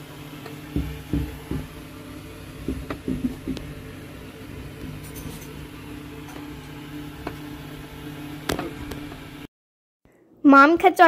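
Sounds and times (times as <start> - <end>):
low mechanical hum: 0.0 - 9.5.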